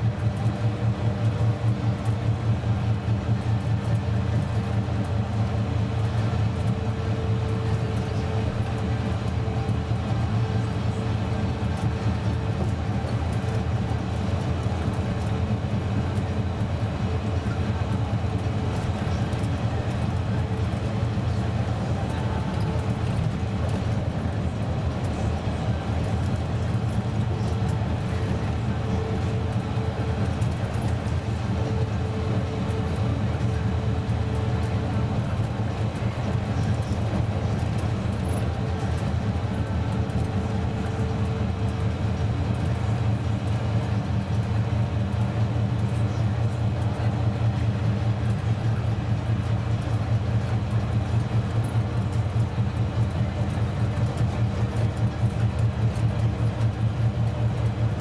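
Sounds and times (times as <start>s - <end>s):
bus diesel engine running: 0.0s - 58.0s
tyres humming on road: 0.0s - 58.0s.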